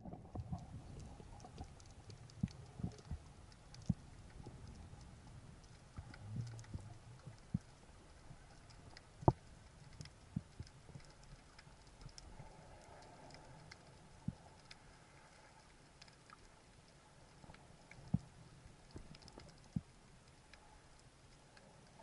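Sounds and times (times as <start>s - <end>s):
faint underwater ambience: 0.0s - 22.0s.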